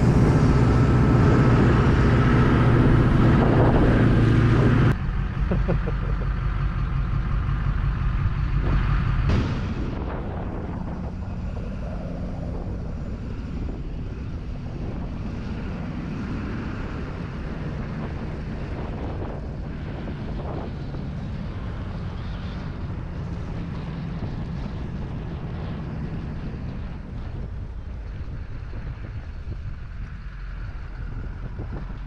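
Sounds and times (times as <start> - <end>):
wind on microphone: 0.0 - 5.0, 8.1 - 32.0
road noise: 0.0 - 32.0
vehicle engine droning: 0.0 - 32.0.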